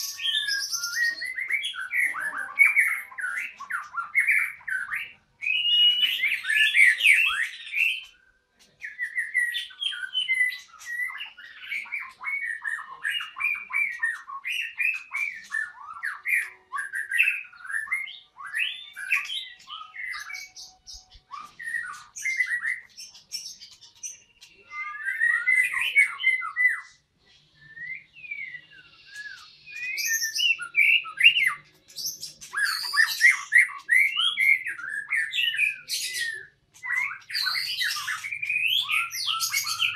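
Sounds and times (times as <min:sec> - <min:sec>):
bird singing whistled phrases: 0:00.0 - 0:08.2, 0:08.8 - 0:39.9.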